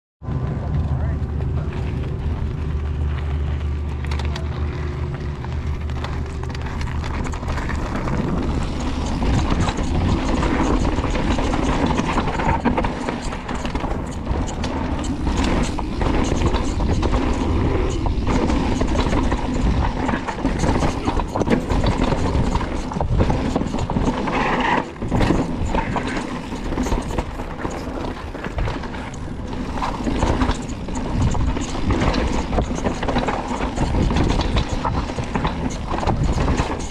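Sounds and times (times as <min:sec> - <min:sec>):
bike tyre noise on dirt: 0:00.2 - 0:36.9
low steady hum: 0:00.2 - 0:36.9
bike rattling and knocking: 0:00.4 - 0:36.9.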